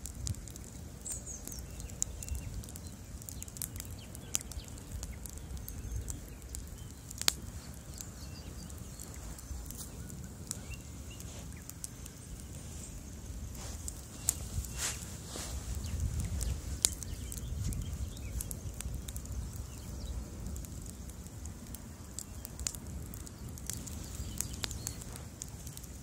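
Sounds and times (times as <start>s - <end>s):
bonfire crackling and popping: 0.0s - 26.0s
low rumble of burning fire: 0.0s - 26.0s.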